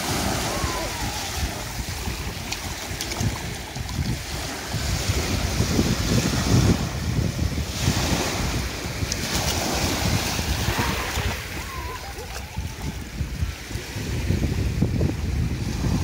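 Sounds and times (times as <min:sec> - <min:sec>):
small waves breaking on sand: 0:00.0 - 0:16.0
wind buffeting microphone: 0:00.0 - 0:16.0.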